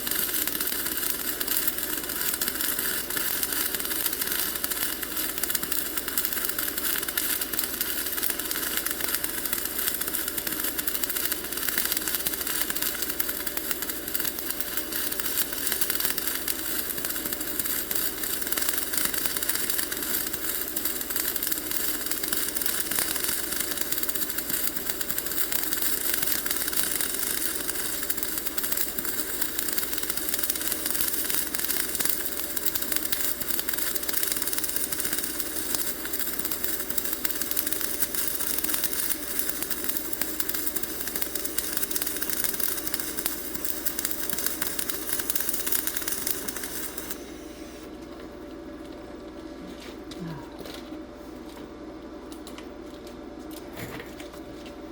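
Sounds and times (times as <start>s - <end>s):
welding arc crackling: 0.0s - 47.9s.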